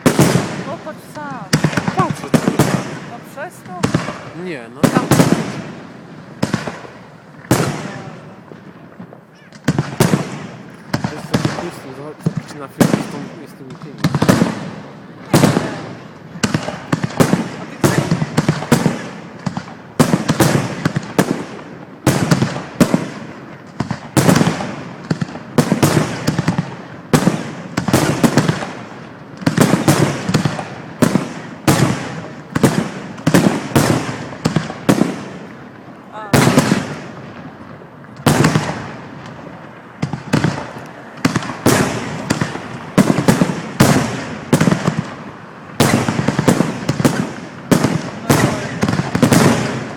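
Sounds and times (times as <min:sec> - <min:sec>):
fireworks exploding: 0:00.0 - 0:49.9.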